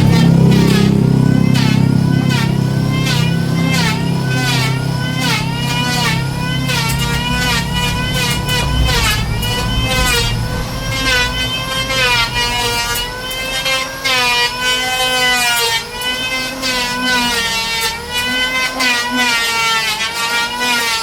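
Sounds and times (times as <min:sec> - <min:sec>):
power tool cutting wood: 0:00.0 - 0:21.0.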